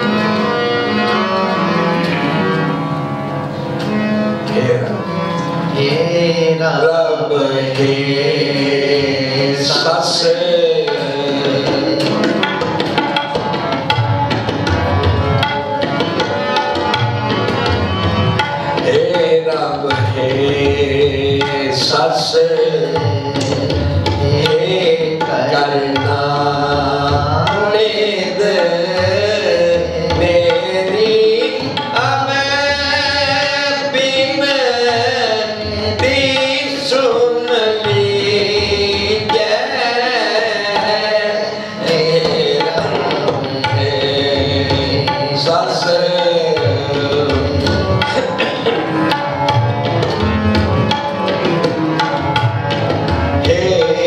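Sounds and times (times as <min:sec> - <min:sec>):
harmoniums playing a melody: 0:00.0 - 0:54.0
tabla: 0:00.0 - 0:54.0.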